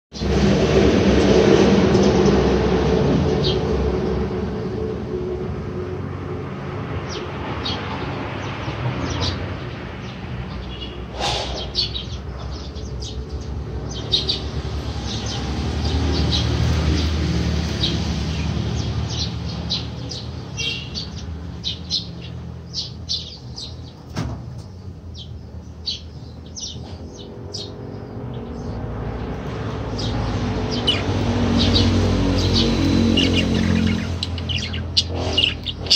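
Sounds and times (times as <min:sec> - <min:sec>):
birds chirping: 0:06.5 - 0:35.9.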